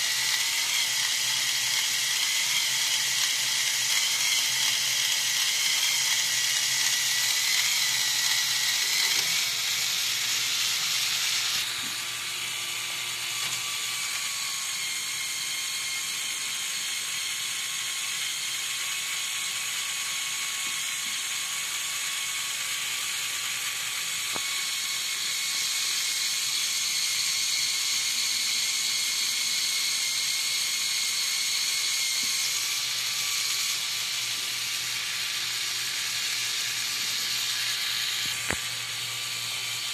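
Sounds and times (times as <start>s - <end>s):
electric motor and gears whirring: 0.0s - 39.9s.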